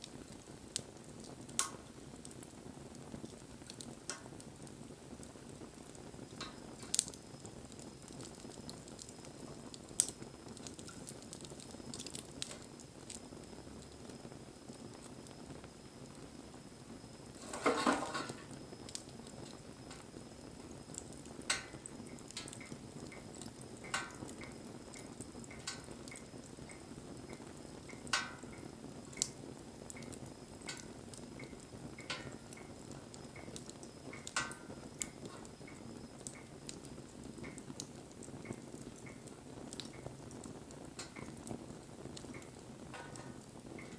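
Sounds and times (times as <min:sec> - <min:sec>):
low steady hiss: 0:00.0 - 0:43.9
wood fire crackling: 0:00.0 - 0:43.9.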